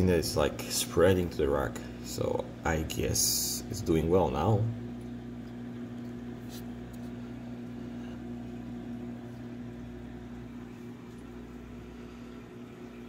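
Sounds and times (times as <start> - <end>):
aquarium pump humming: 0.0 - 13.0.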